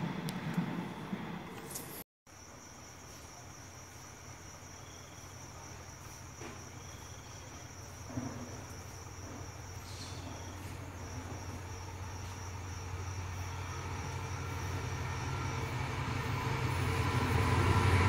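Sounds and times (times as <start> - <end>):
distant train rumble: 0.0 - 2.0, 4.0 - 18.0
crickets chirring: 0.8 - 18.0.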